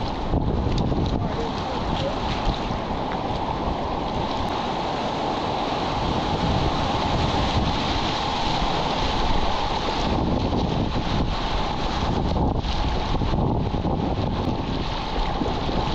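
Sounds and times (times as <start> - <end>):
whitewater roaring: 0.0 - 15.9
wind buffeting the microphone: 0.0 - 15.9.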